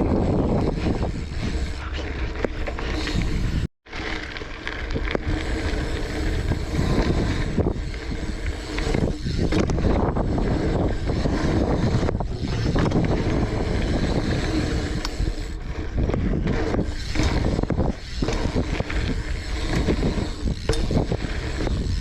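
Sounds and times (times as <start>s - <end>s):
wind buffeting microphone: 0.0s - 3.7s, 4.9s - 22.0s
bike rolling over dirt: 0.0s - 22.0s.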